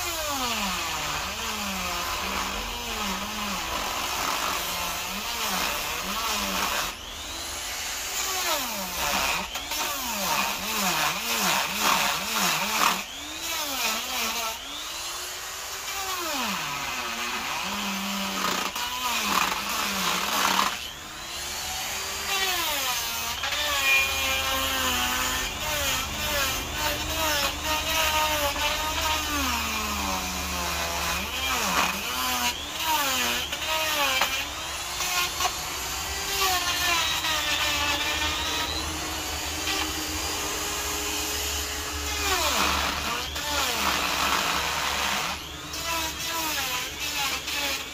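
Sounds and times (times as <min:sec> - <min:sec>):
die grinder cutting wood: 0:00.0 - 0:47.9.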